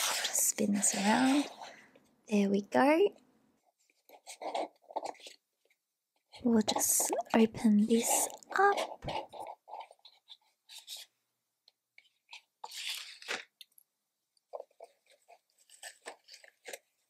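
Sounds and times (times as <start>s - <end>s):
soft rustling of foam insert: 0.0s - 2.2s, 3.5s - 13.5s, 14.4s - 17.0s.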